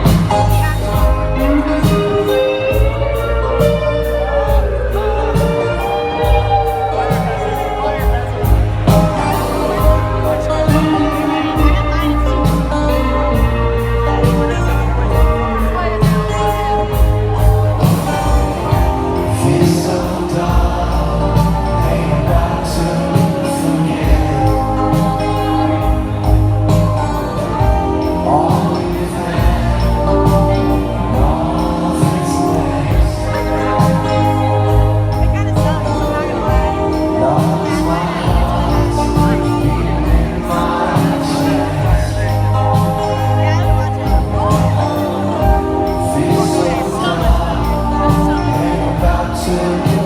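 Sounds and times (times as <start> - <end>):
bass guitar: 0.0 - 50.0
drums: 0.0 - 50.0
person singing: 0.0 - 50.0.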